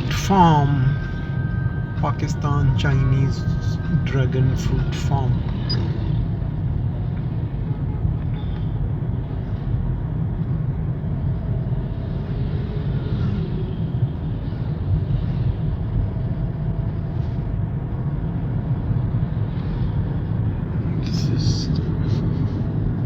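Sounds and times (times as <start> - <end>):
car driving with engine and road noise: 0.0 - 23.0.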